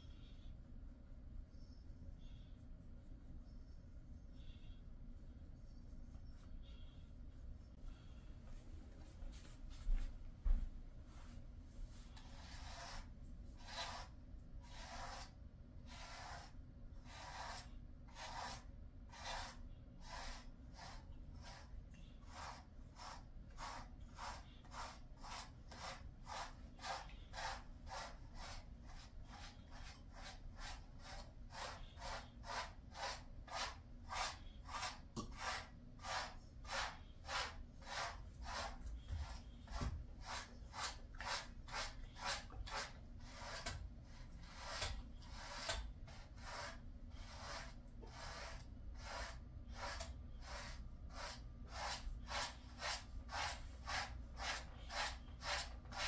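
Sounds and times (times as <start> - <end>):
brush strokes through dog fur: 0.1 - 56.0.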